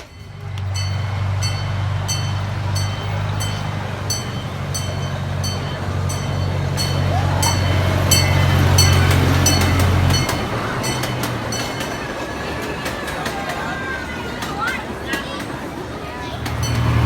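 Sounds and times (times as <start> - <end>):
train engine drone: 0.0 - 17.0
wheels clacking over rails: 0.0 - 17.0.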